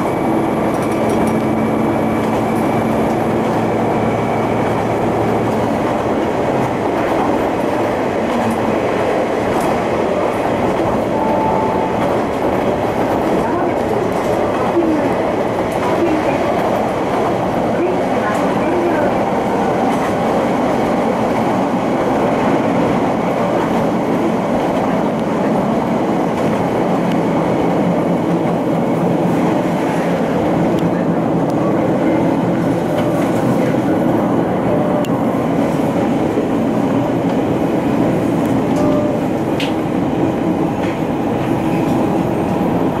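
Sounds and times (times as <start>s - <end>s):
railcar engine and wheel rumble: 0.0s - 43.0s.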